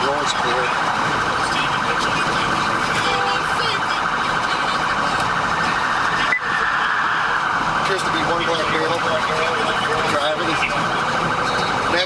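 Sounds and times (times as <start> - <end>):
police siren pulsing: 0.0 - 12.0
road and engine noise: 0.0 - 12.0.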